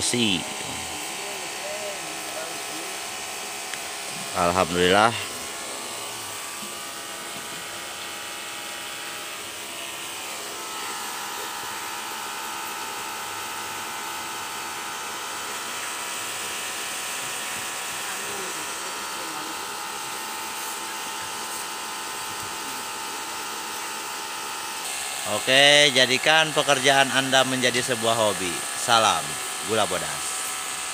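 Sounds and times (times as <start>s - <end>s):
small electric motor whining: 0.0s - 30.9s.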